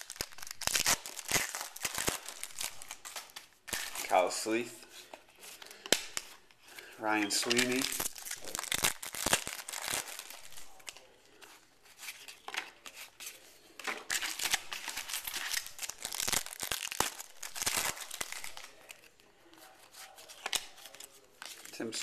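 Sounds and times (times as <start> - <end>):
cards and wrappers crinkling: 0.0 - 22.0.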